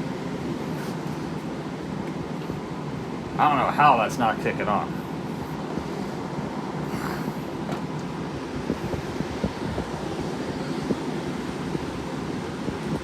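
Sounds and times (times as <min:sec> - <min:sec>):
air conditioner fan running: 0:00.0 - 0:13.0.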